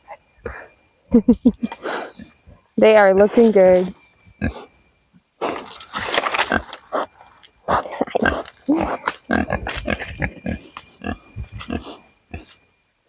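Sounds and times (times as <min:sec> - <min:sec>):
pigs grunting and snuffling: 0:00.0 - 0:00.8, 0:01.6 - 0:04.8, 0:05.4 - 0:12.7.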